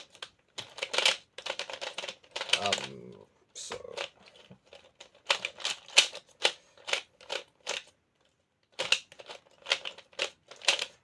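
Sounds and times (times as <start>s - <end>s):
puzzle cube plastic clacks: 0.0s - 3.0s, 3.9s - 11.0s.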